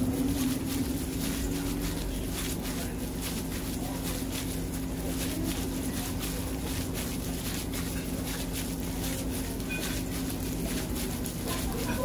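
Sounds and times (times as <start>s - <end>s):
low machine hum: 0.0s - 12.0s
minced meat squishing: 0.0s - 12.0s.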